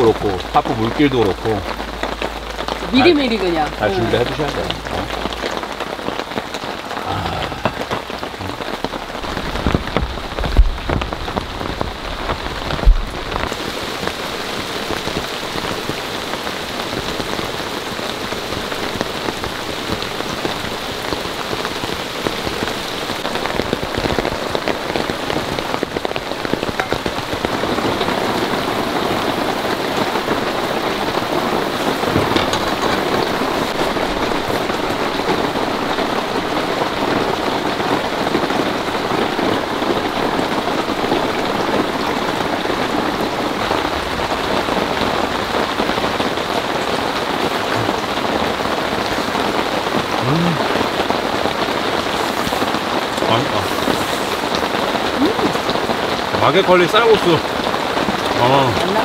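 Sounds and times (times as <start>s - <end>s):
heavy rain on a tent: 0.0s - 59.0s.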